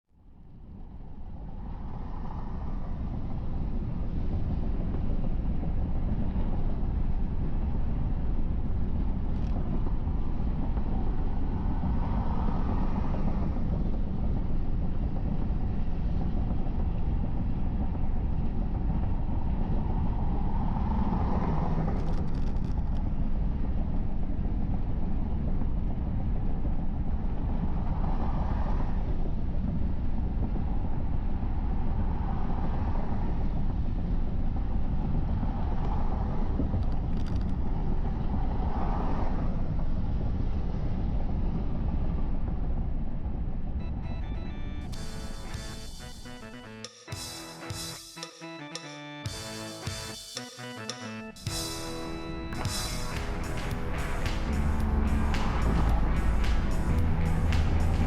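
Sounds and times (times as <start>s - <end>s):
car driving on highway: 0.5s - 45.3s, 51.6s - 58.0s.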